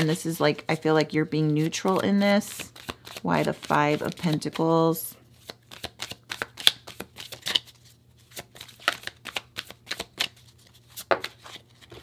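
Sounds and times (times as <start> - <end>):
cards shuffled by hand: 1.4 - 4.6, 5.4 - 12.0.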